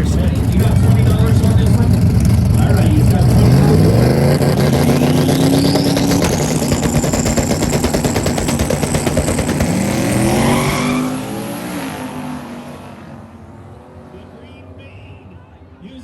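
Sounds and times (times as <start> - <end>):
race car engine revving: 0.0 - 15.3.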